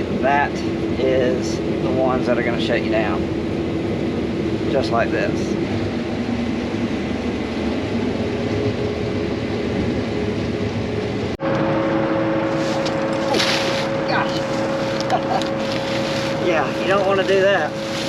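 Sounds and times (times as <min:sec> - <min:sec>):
combine harvester humming: 0:00.0 - 0:18.0.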